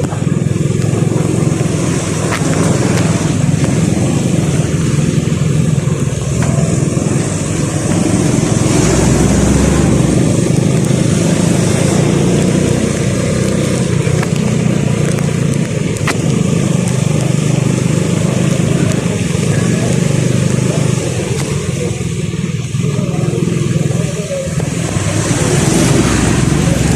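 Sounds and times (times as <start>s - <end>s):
vehicle engine and road noise: 0.0s - 26.9s.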